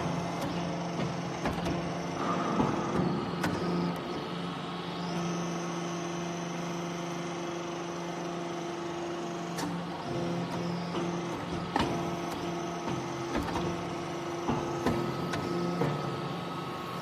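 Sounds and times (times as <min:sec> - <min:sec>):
hydraulic unit humming: 0:00.0 - 0:17.0.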